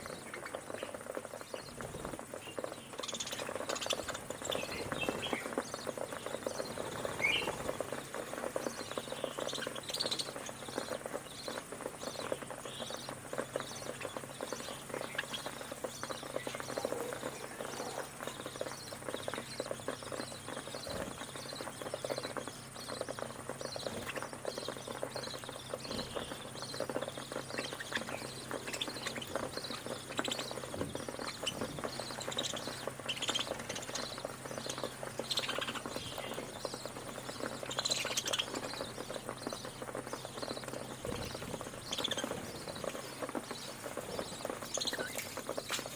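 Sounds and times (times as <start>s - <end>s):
beaks pecking and cracking grain: 0.0s - 45.9s
budgerigars chirping: 0.0s - 45.9s.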